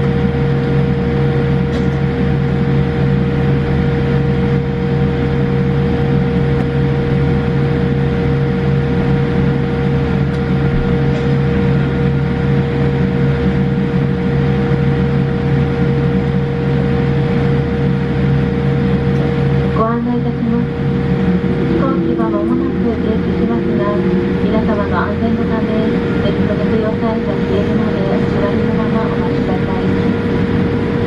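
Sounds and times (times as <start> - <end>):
aircraft cabin rumble: 0.0 - 31.0
constant hums: 0.0 - 31.0.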